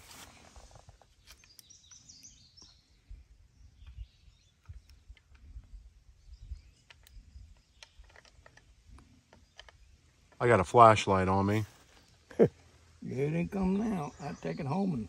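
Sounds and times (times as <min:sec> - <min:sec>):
faint outdoor ambience: 0:00.0 - 0:15.0
bird chirps: 0:01.1 - 0:15.0.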